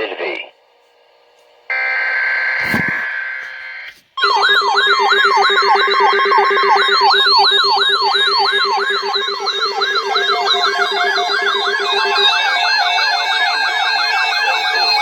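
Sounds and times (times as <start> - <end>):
electronic siren sweeps: 1.7 - 15.0.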